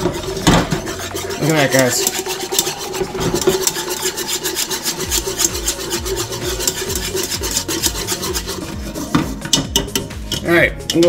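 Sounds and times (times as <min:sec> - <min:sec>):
whisk scraping a pot: 0:00.0 - 0:11.0.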